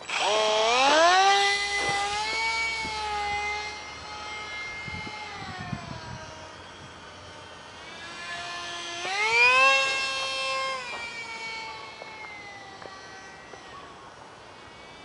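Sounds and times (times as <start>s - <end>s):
small electric motor and propeller whining: 0.0s - 15.0s.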